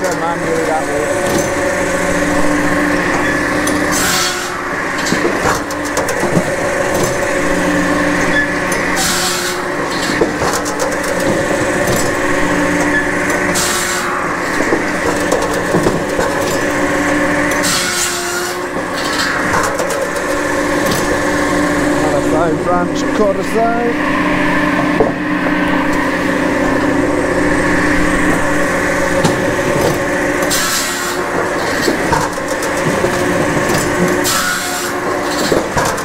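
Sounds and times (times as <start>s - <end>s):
firewood processor drone: 0.0s - 36.0s
pitched machine hum: 0.0s - 36.0s.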